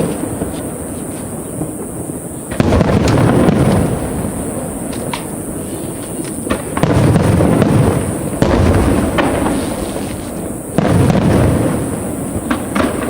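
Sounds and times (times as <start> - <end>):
firework booms: 0.0 - 13.0
firework cracks and pops: 0.0 - 13.0.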